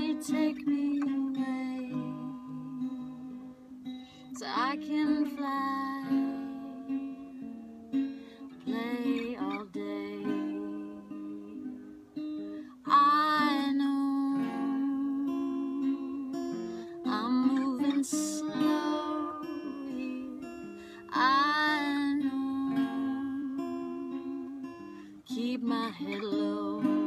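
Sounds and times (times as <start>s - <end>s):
woman singing: 0.0s - 3.5s, 4.2s - 7.6s, 8.4s - 11.8s, 12.7s - 27.0s
fingerpicked acoustic guitar: 0.0s - 27.0s.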